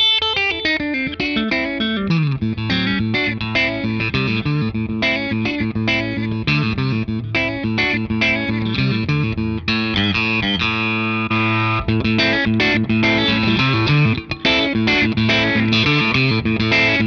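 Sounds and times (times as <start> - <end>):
compressed electric guitar: 0.0 - 17.0.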